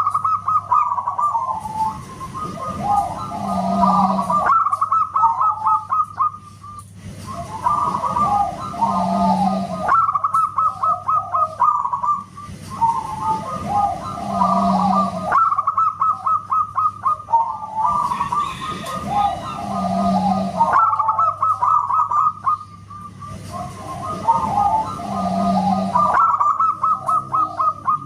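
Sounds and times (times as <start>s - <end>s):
dove cooing song: 0.0s - 28.0s.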